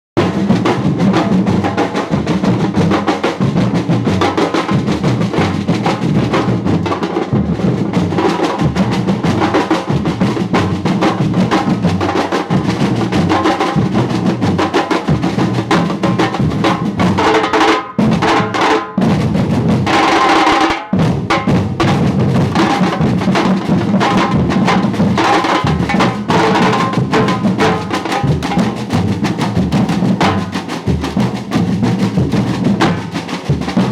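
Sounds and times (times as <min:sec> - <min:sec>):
fast drumming: 0:00.2 - 0:33.9.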